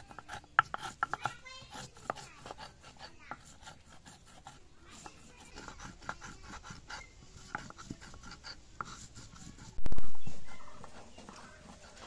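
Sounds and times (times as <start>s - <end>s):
stone grinding spices: 0.0s - 12.0s.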